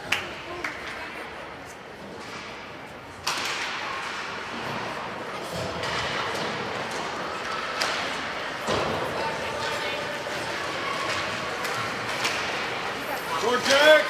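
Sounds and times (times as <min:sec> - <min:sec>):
ice hockey rink noise: 0:00.0 - 0:14.0.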